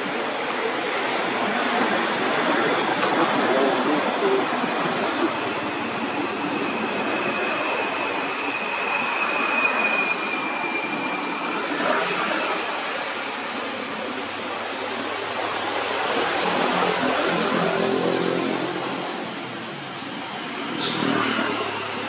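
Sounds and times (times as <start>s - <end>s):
rushing outdoor background noise: 0.0s - 22.0s.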